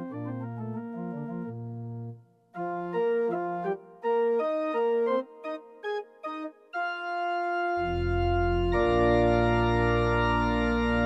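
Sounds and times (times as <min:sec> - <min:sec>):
organ chord: 0:00.0 - 0:11.0.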